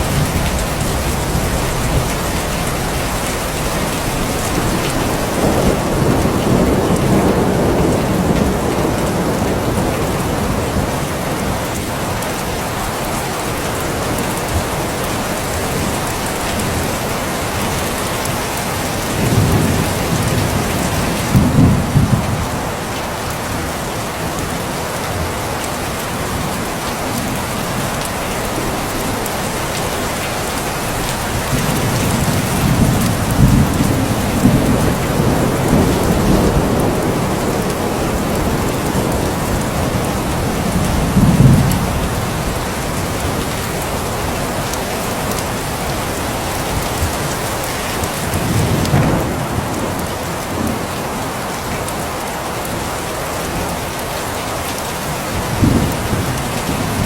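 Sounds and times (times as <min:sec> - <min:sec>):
low thunder rumbling: 0:00.0 - 0:22.9, 0:30.4 - 0:51.7, 0:55.3 - 0:57.0
steady rain: 0:00.0 - 0:57.0.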